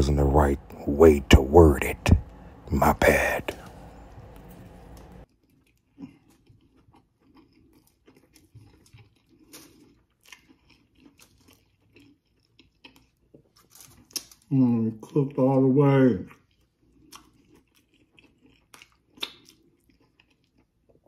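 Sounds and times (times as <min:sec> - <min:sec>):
person chewing: 0:01.3 - 0:15.3, 0:16.2 - 0:21.0.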